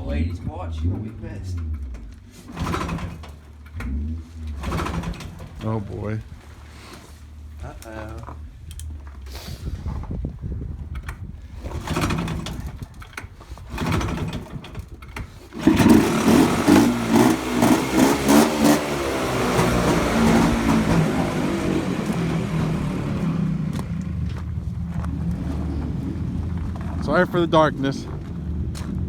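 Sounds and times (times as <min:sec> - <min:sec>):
tractor engine starting and revving: 0:00.0 - 0:10.2, 0:10.8 - 0:29.0.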